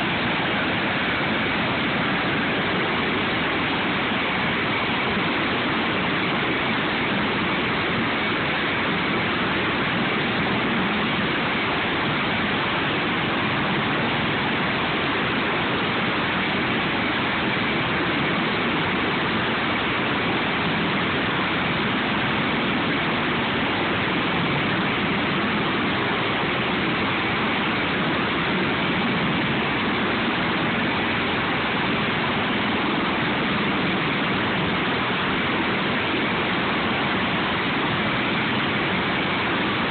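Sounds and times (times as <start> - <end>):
faint high whine: 0.0 - 39.9
helicopter turbine and rotor rushing: 0.0 - 39.9.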